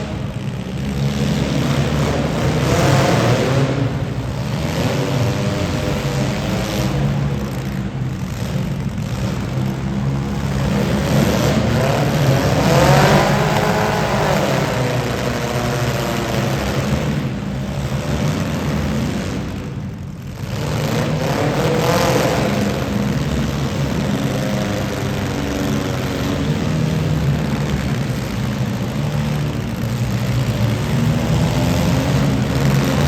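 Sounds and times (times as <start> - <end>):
car engines running: 0.0 - 33.0
engine revving: 0.0 - 33.0.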